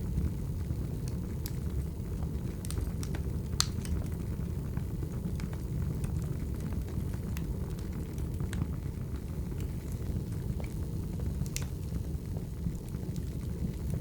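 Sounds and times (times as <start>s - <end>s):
firewood crackling: 0.0s - 14.0s.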